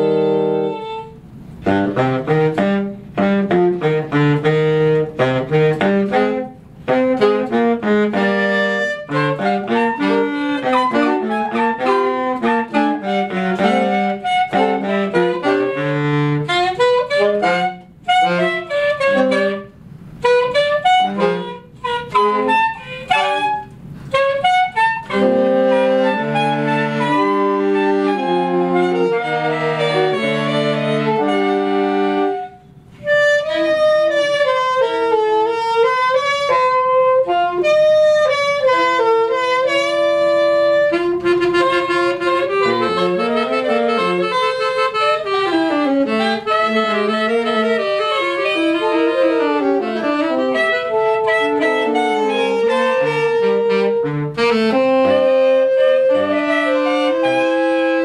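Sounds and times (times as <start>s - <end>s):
saxophone ensemble playing: 0.0s - 58.0s.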